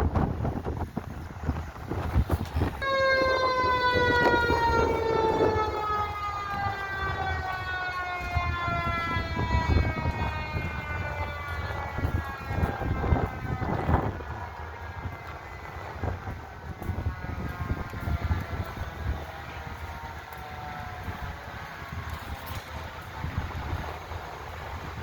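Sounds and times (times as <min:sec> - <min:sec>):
fire engine siren wailing: 0:00.0 - 0:25.0
low rumble of traffic: 0:00.0 - 0:25.0.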